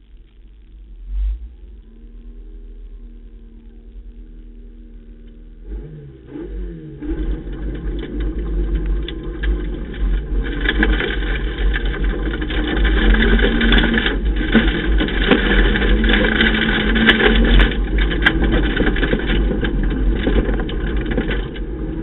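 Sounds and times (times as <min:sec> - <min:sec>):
car engine revving: 0:00.0 - 0:22.0
rough road noise: 0:00.0 - 0:22.0.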